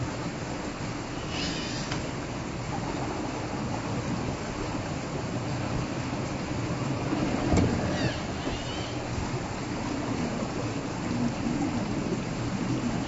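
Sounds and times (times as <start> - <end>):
creek water over rocks: 0.0 - 13.0.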